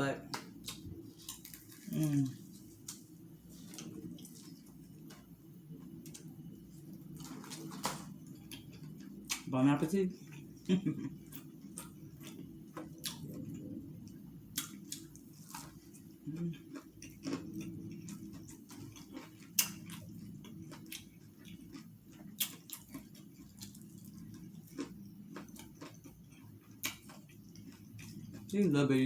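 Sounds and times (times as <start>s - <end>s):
crunching fried chicken: 0.0s - 29.0s
steady low hum: 0.0s - 29.0s.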